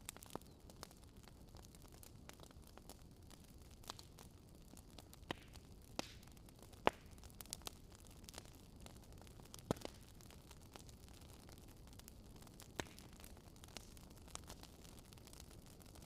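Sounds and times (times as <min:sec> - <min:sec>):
fire crackling with pops: 0:00.0 - 0:16.0.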